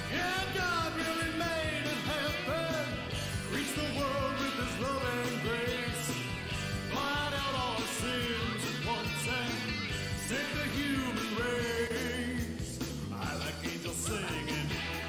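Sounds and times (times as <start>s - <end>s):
rock and roll song with singing: 0.0s - 15.0s.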